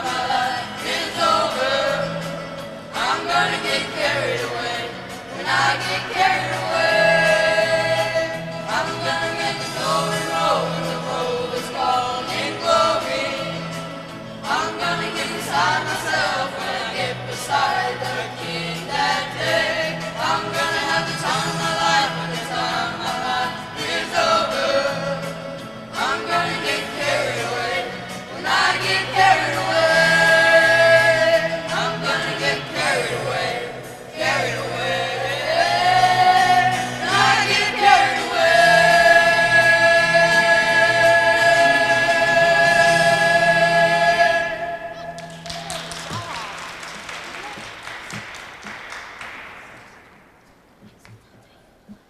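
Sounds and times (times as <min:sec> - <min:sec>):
school choir singing: 0:00.0 - 0:45.5
instrumental accompaniment: 0:00.0 - 0:48.8.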